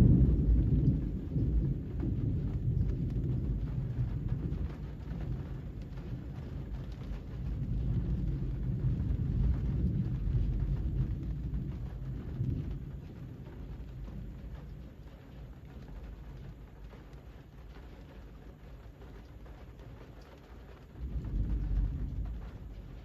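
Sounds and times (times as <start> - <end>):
low rumble of thunder: 0.0 - 23.0
rain falling: 0.0 - 23.0.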